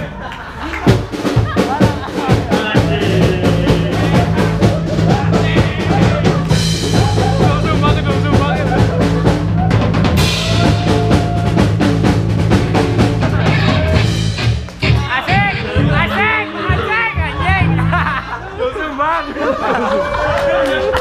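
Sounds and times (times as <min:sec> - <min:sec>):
drum kit beating: 0:00.0 - 0:18.4
live band playing: 0:00.8 - 0:18.2.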